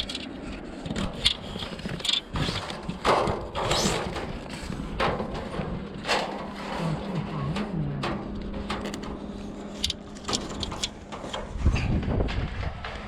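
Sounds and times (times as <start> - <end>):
cable scraping rustle: 0.0 - 12.7.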